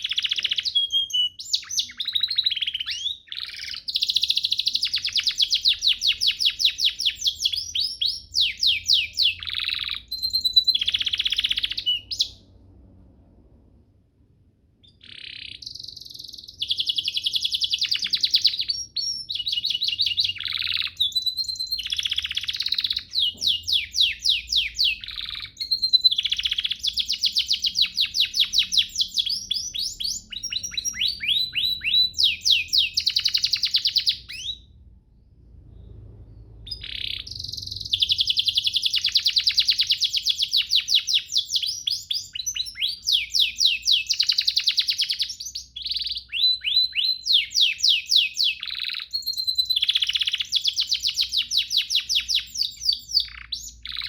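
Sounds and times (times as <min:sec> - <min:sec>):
canary singing trills: 0:00.0 - 0:12.6, 0:14.8 - 0:34.8, 0:35.6 - 0:54.0.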